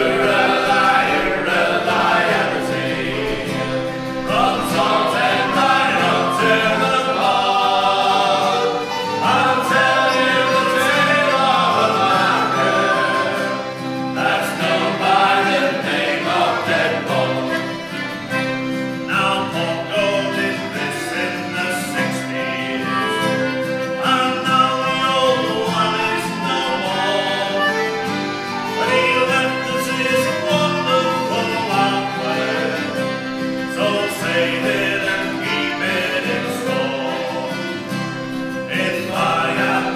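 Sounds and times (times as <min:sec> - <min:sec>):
group singing a sea shanty: 0:00.0 - 0:39.9
instrumental accompaniment: 0:00.0 - 0:39.9.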